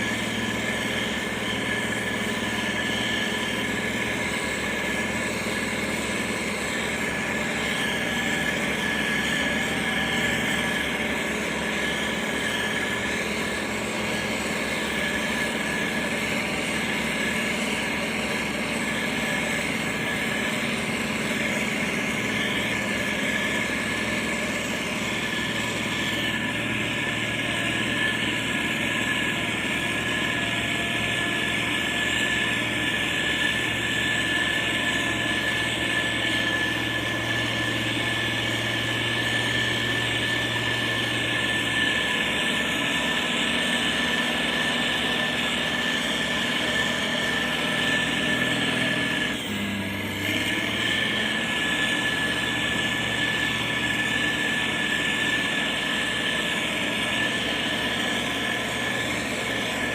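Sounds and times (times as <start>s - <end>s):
heavy machinery diesel engine: 0.0s - 59.9s
high-pitched whine: 0.0s - 59.9s.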